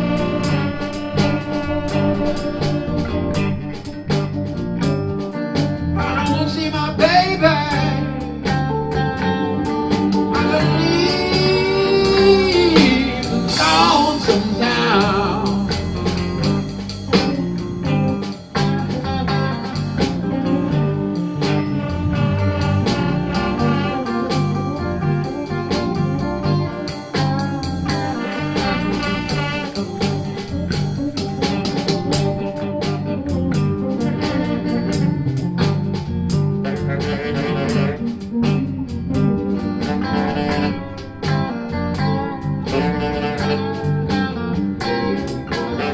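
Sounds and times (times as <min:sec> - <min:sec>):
electric blues band playing: 0:00.0 - 0:45.9
lead guitar bending: 0:00.0 - 0:45.9.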